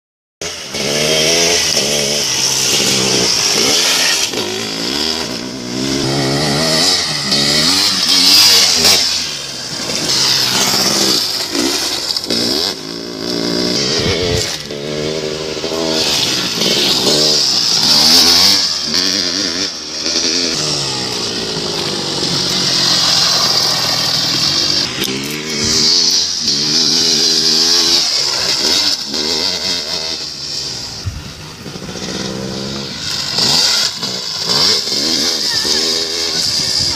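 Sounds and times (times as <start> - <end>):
dirt bike engine revving: 0.4 - 36.9.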